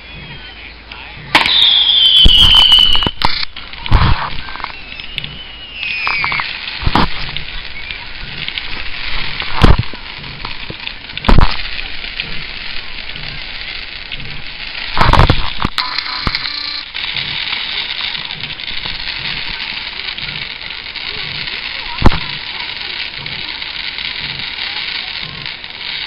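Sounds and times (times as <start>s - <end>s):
firework fountains hissing and crackling: 0.0s - 26.0s
loud firework bangs: 1.2s - 26.0s.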